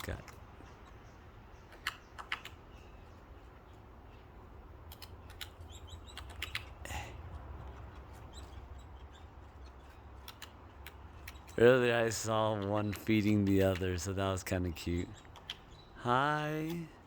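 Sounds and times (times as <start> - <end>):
faint bird chirps: 0.0 - 12.4, 13.0 - 17.0.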